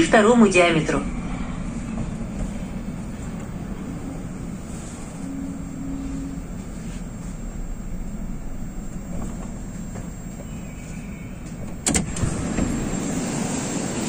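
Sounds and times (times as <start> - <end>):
metro train rumble: 0.0 - 14.0.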